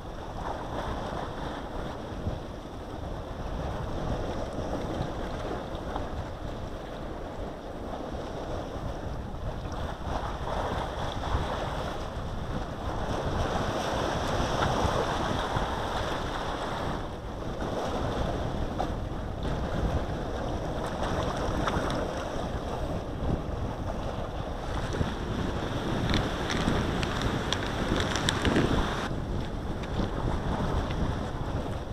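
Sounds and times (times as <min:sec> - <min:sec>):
sea waves: 0:00.0 - 0:31.9
wind buffeting microphone: 0:00.0 - 0:31.9.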